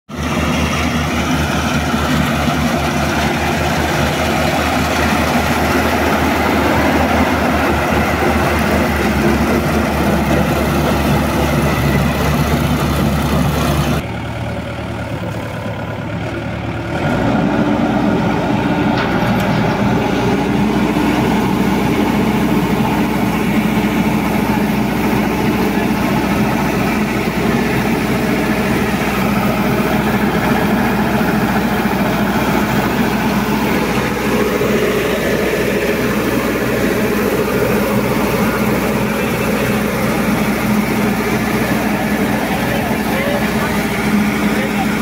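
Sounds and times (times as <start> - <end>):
combine harvester engine drone: 0.1 - 45.0.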